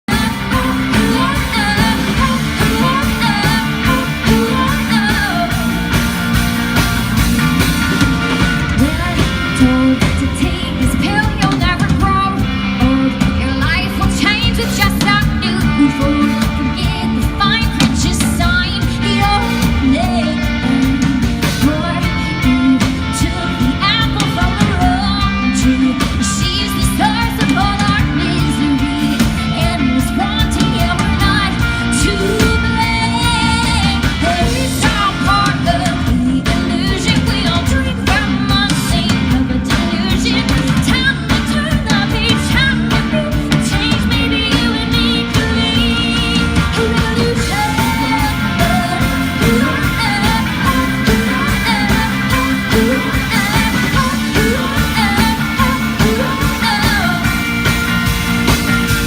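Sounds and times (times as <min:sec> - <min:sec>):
person singing: 0:00.0 - 0:06.1, 0:07.4 - 0:57.9
rock band playing: 0:00.0 - 0:59.0.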